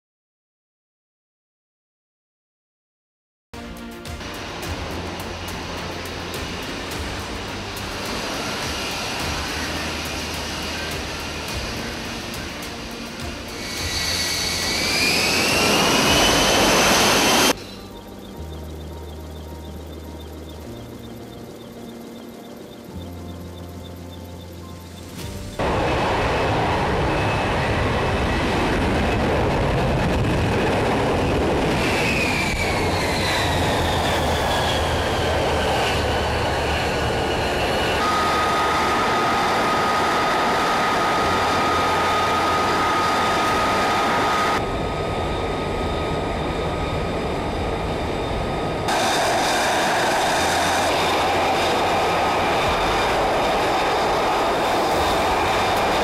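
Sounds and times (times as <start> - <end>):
jet engine rush with high whine: 4.1 - 23.2, 24.0 - 56.0.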